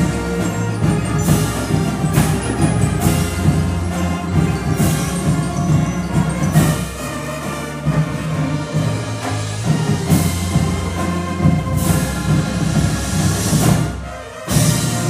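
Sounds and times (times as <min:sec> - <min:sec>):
low brass bass line: 0:00.0 - 0:15.0
marching band playing: 0:00.0 - 0:15.0.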